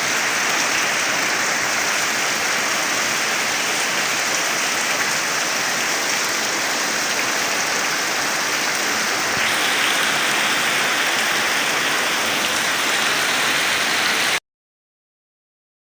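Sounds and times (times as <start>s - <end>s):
heavy rain falling: 0.0s - 14.4s.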